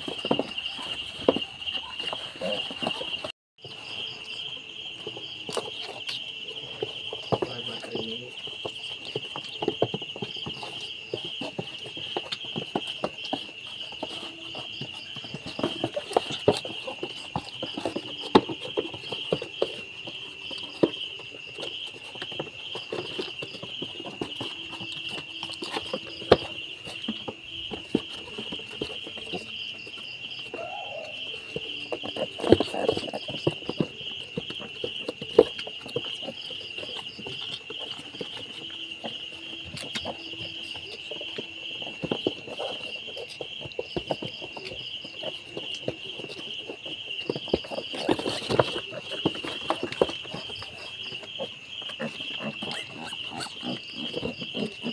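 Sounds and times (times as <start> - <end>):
insects chirping: 0.0 - 54.9
piglet trotters tapping on wood: 6.8 - 54.9.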